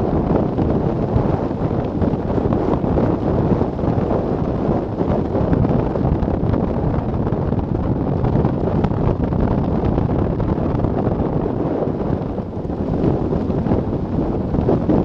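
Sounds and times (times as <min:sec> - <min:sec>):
heavy wind on microphone: 0:00.0 - 0:15.0.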